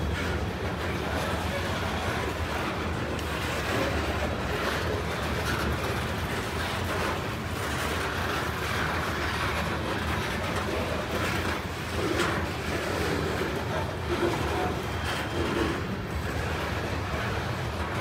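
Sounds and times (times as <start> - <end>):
freight train rumbling past: 0.0 - 18.0
wheels clacking over rail joints: 0.0 - 18.0.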